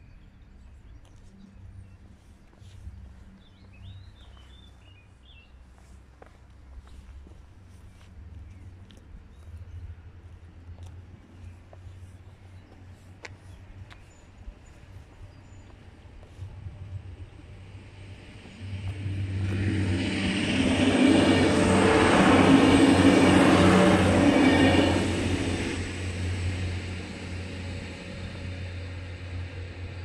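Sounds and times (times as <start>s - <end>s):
train engine and wheel noise: 0.0s - 30.0s.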